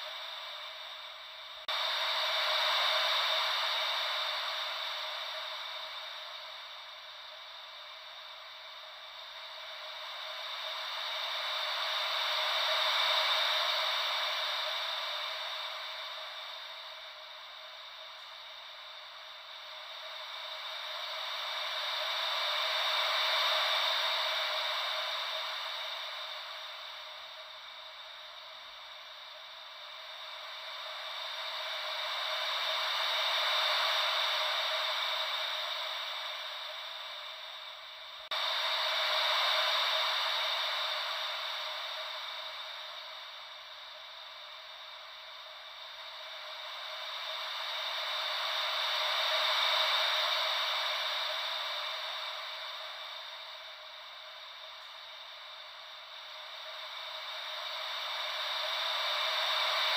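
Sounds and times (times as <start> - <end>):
ocean waves white noise: 0.0 - 59.9.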